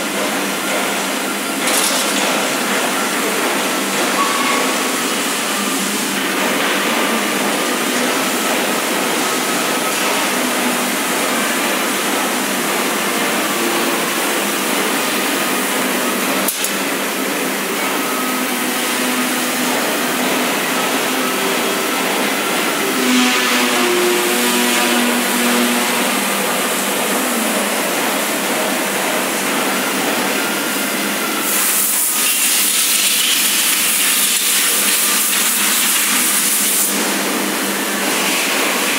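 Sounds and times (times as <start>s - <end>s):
factory machinery hiss and hum: 0.0s - 38.9s.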